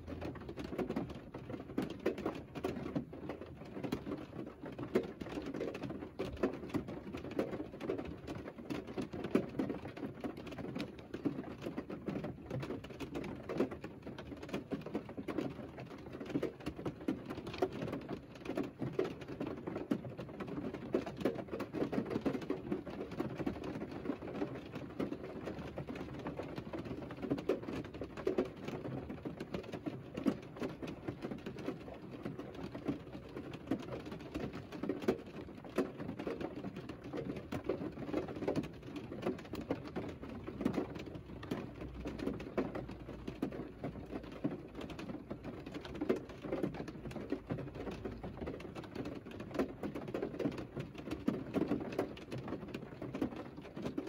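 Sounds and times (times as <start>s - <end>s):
rain pattering on car: 0.0s - 54.0s.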